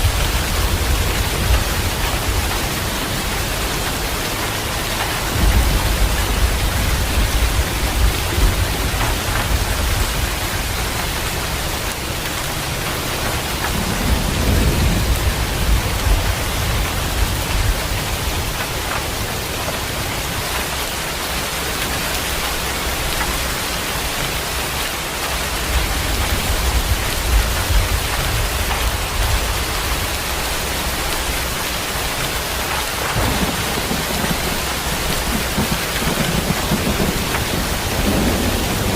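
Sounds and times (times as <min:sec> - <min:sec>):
rolling thunder: 0:00.0 - 0:19.6, 0:25.6 - 0:38.9
heavy rain: 0:00.0 - 0:38.9.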